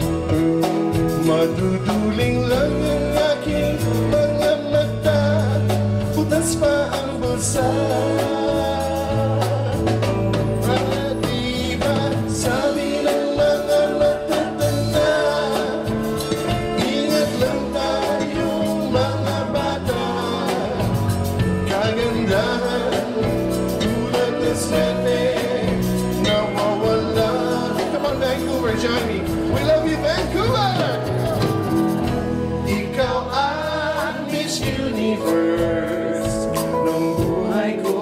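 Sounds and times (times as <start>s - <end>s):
live band playing pop: 0.0s - 38.0s
person singing: 0.0s - 38.0s.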